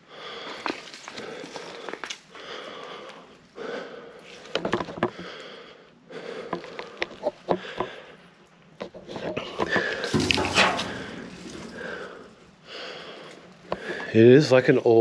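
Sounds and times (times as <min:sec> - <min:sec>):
person breathing hard: 0:00.0 - 0:08.3, 0:09.7 - 0:14.1.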